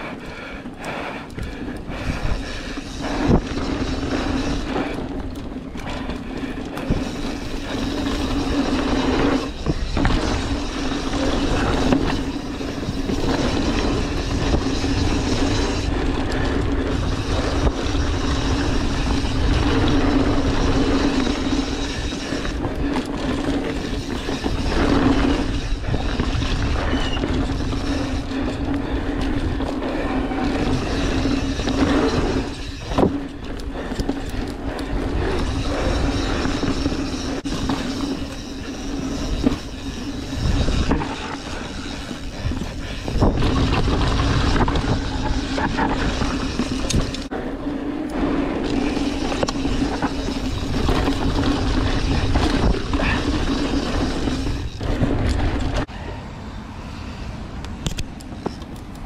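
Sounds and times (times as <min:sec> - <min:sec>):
bike rattling over bumps: 0:00.0 - 0:55.9
bike tyres on dirt trail: 0:00.0 - 0:59.0.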